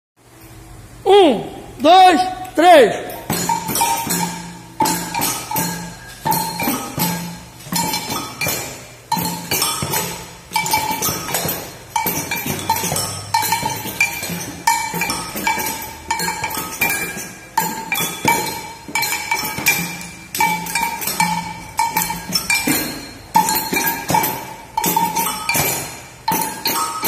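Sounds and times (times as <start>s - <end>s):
children playing hand percussion: 3.0s - 27.0s
ringing metallic bell strokes: 3.2s - 27.0s.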